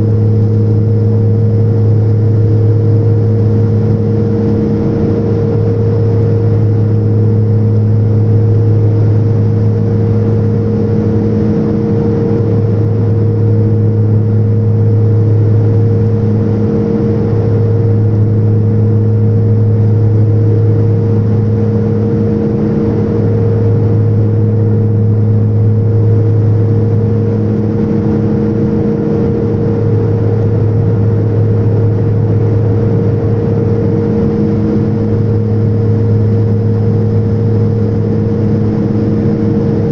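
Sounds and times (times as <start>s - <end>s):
airliner engines droning in cabin: 0.0s - 39.9s.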